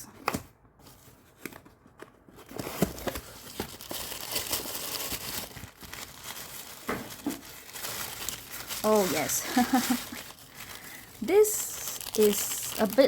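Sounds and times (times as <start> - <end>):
packaging crinkling: 1.3 - 13.0.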